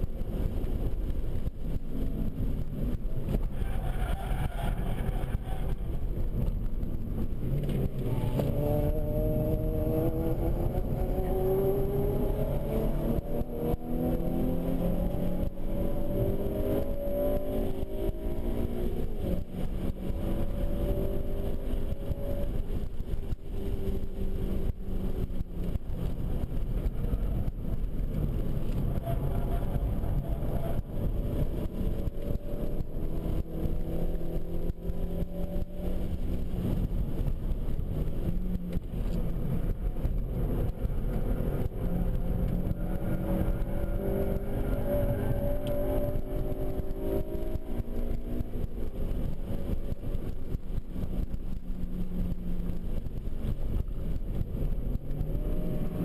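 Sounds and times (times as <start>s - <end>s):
car engine accelerating: 0.0s - 56.0s
road and wind rumble: 0.0s - 56.0s.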